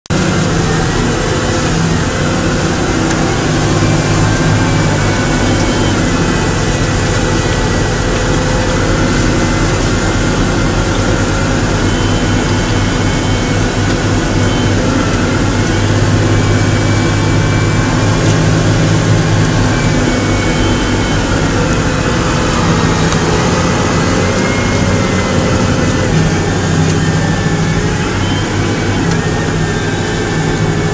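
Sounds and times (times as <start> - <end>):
diesel engines droning: 0.0 - 30.9
faint high whine: 0.2 - 30.9.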